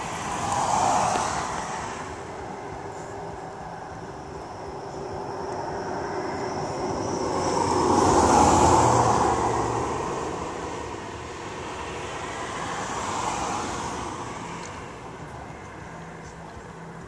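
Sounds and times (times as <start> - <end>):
car approaching: 0.0 - 17.0
car passing: 0.0 - 17.0.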